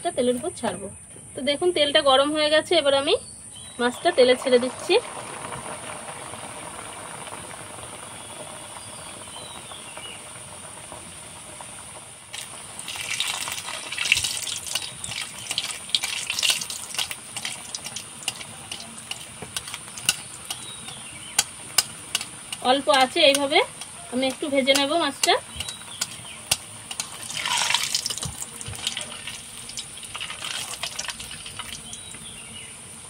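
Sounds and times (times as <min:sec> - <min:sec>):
pastry deep-frying in oil: 0:02.2 - 0:33.0.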